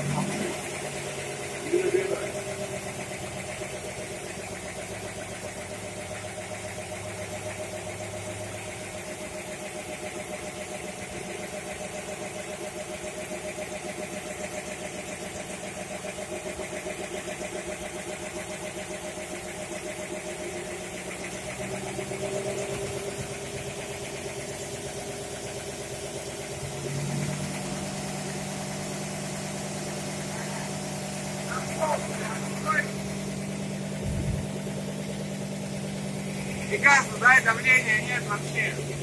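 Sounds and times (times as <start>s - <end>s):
pump engine running steadily: 0.0s - 39.0s.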